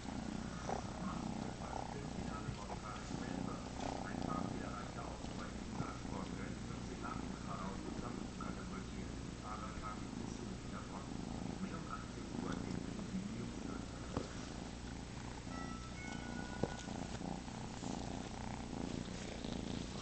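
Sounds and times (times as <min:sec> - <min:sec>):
kitten purring: 0:00.0 - 0:20.0.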